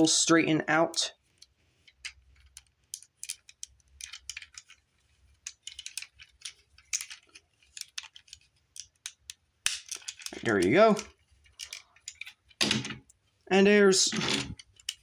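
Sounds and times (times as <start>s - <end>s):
plastic parts clicking: 1.2s - 13.2s, 14.1s - 15.0s.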